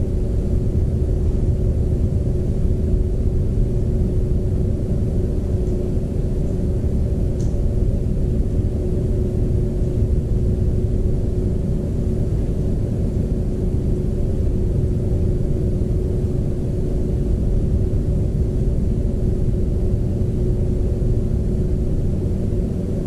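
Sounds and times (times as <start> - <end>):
constant hum: 0.0 - 23.0
steady low rumble: 0.0 - 23.0.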